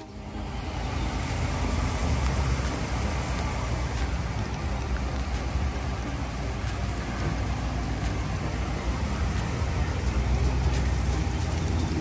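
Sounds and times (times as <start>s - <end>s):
engine and tyres rumbling: 0.0s - 12.0s
rain tapping on glass: 0.0s - 12.0s.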